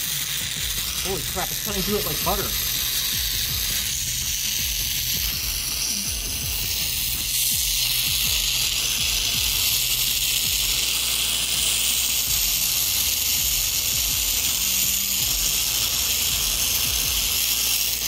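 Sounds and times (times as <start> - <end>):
torch flame hissing: 0.0 - 18.0.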